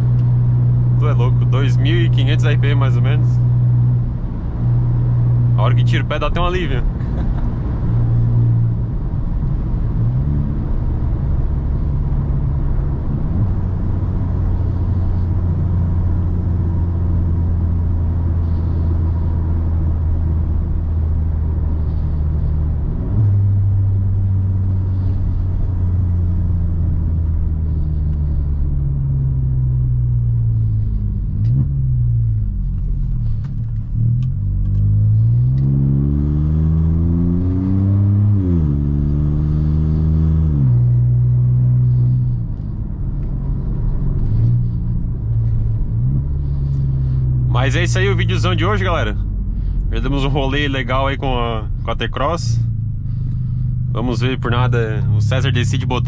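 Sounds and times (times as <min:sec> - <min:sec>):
turbo car engine running: 0:00.0 - 0:56.0.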